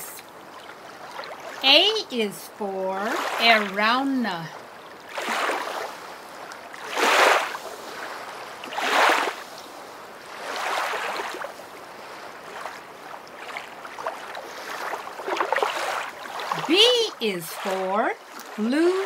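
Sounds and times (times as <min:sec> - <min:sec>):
rushing water washes: 0:00.0 - 0:02.0, 0:02.7 - 0:19.0.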